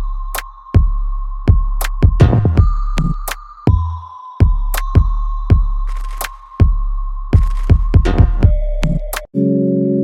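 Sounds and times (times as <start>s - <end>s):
electronic music with kick drum: 0.0s - 9.4s.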